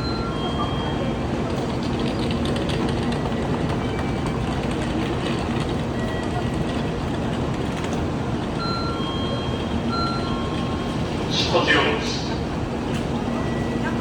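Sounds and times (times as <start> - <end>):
train rushing rumble: 0.0 - 14.0.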